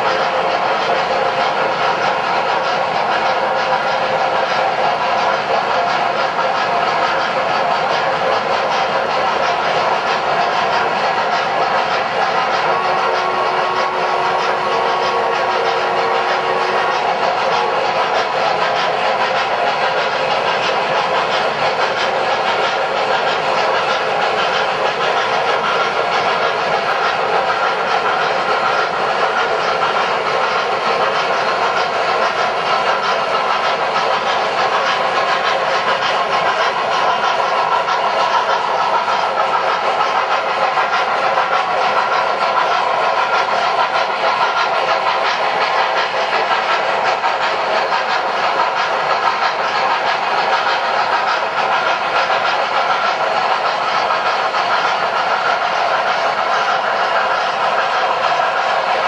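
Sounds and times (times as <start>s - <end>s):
steam hiss: 0.0s - 59.0s
train wheels rolling on track: 0.0s - 59.0s.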